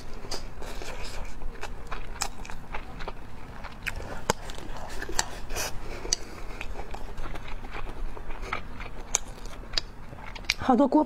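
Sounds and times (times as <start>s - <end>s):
chewing: 0.0s - 10.6s.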